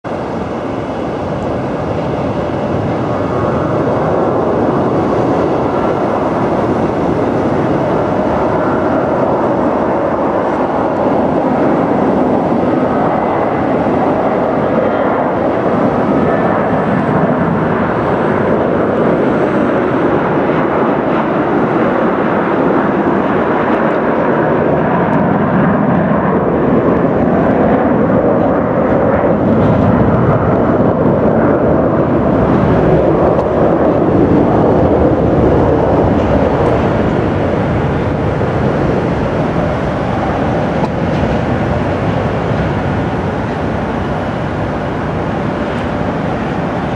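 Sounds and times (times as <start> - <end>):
jet engines roaring on takeoff: 0.0 - 46.9.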